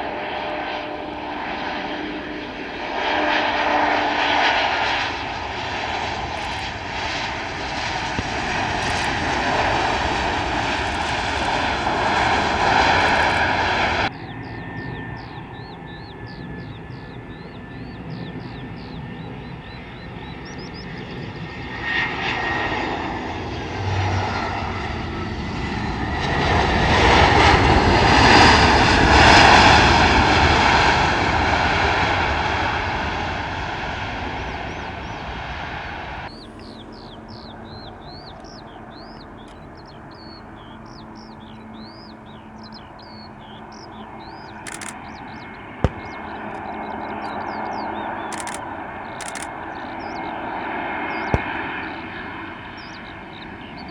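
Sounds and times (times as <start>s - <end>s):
birds chirping: 0.0s - 27.6s, 28.2s - 53.9s
jet airliner engine noise: 0.0s - 53.9s.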